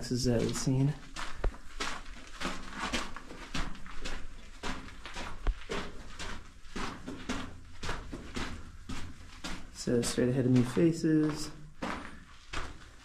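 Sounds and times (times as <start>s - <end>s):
footsteps crunching on dirt and rock: 0.0s - 13.0s.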